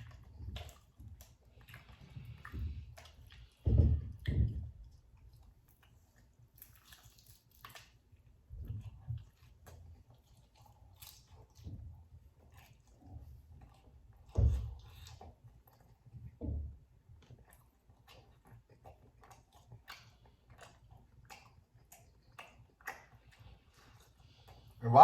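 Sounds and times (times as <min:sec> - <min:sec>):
person chewing crispy food: 0:00.0 - 0:04.3, 0:04.9 - 0:16.3, 0:17.2 - 0:24.9.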